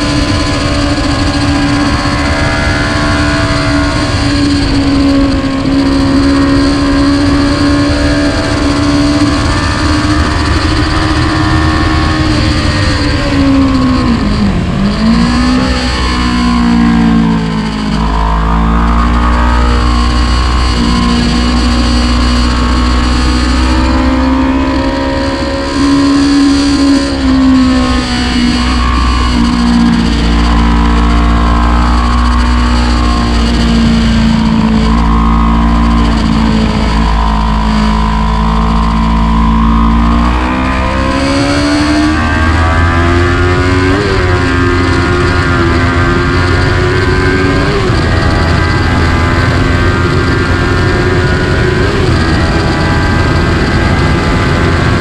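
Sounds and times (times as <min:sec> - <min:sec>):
motorcycle engine under load: 0:00.0 - 0:55.0
wind rumble on microphone: 0:00.0 - 0:55.0.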